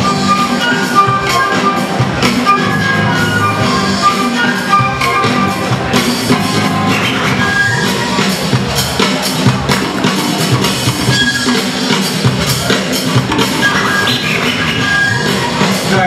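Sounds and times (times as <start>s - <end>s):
breakbeat dance music: 0.0s - 16.0s.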